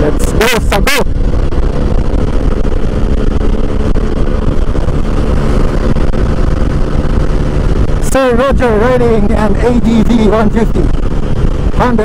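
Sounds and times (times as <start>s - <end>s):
road rumble: 0.0s - 12.0s
scooter engine running: 0.0s - 12.0s
wind noise: 0.0s - 12.0s.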